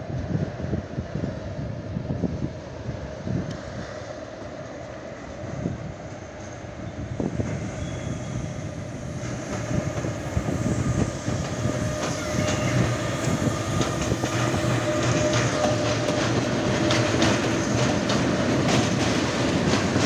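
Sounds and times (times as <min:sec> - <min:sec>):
electric locomotive running: 0:03.2 - 0:20.0.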